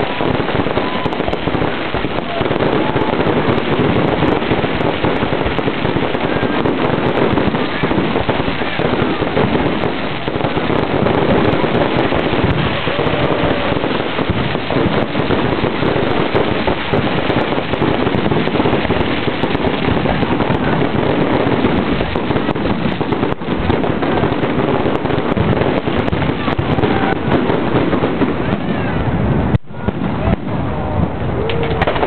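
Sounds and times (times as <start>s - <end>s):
fireworks bursting and crackling: 0.0s - 32.0s.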